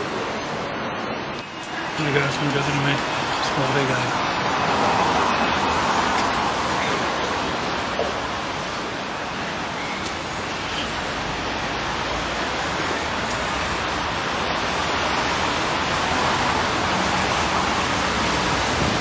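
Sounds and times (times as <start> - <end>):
rain falling on a street: 1.3 - 19.0.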